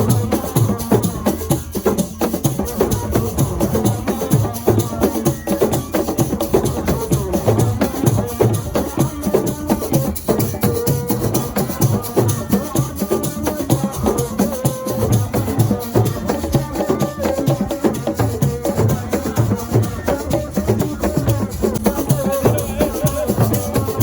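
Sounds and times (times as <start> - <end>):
drums: 0.0 - 24.0.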